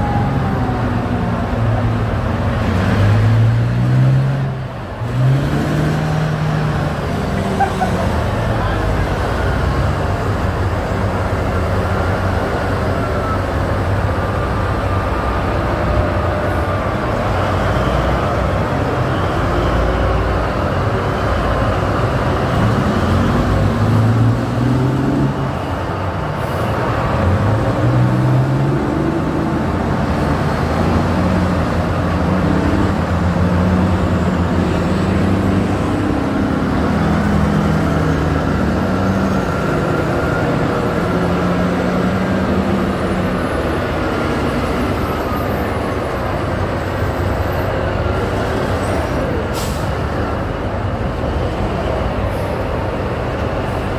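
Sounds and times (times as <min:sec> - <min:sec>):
diesel haul trucks driving past: 0:00.0 - 0:53.9.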